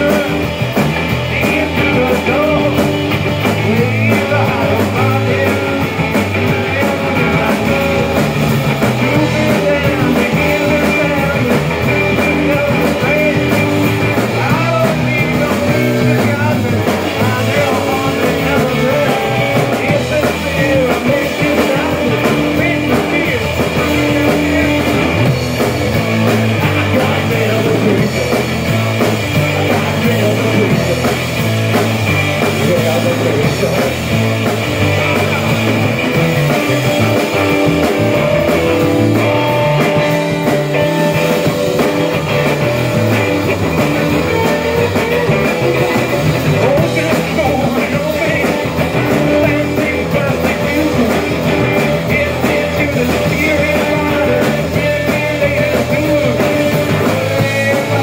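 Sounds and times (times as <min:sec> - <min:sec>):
drum kit: 0:00.0 - 0:58.0
electric guitar through an amp: 0:00.0 - 0:58.0.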